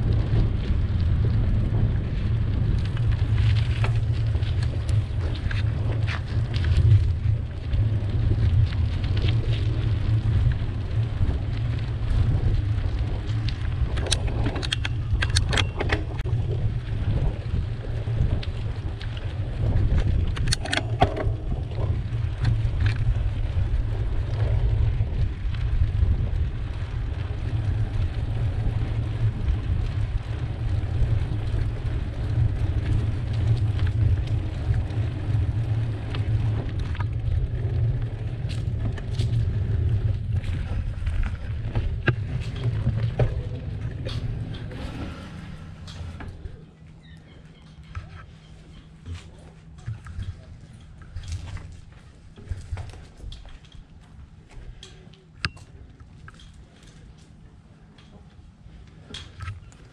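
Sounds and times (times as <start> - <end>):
bicycle clicks and rattles: 0.0 - 59.9
wind and road rumble: 0.0 - 59.9.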